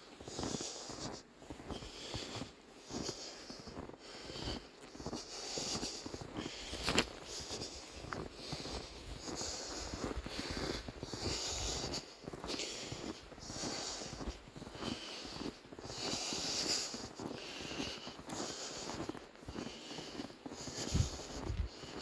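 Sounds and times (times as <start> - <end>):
person breathing hard: 0.3 - 22.0.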